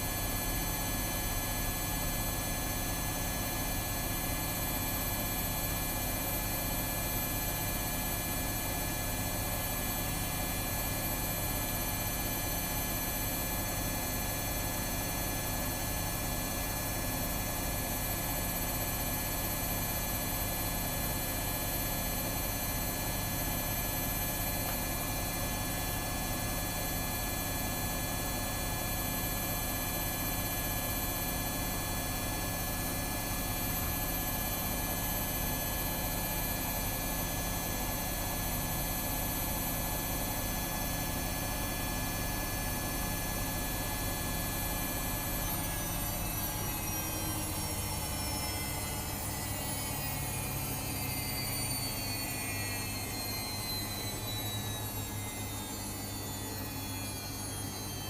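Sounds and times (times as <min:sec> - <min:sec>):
washing machines humming: 0:00.0 - 0:58.0.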